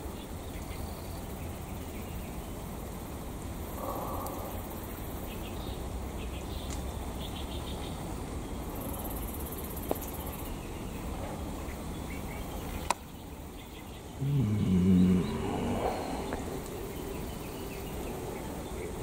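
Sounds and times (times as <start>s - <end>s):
faint insect chirping: 0.0s - 19.0s.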